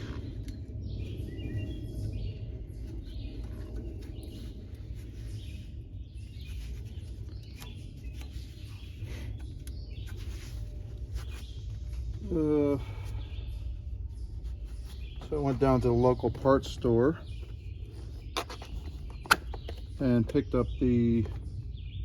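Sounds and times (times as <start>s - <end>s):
low background rumble: 0.0s - 22.0s
small birds chirping: 0.0s - 22.0s.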